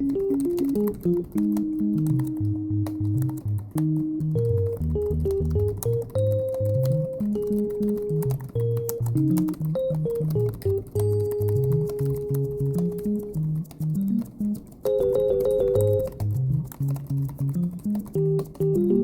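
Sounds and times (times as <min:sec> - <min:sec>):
faint computer keyboard typing: 0:00.0 - 0:19.0
keyboard tune with bass line: 0:00.0 - 0:19.0.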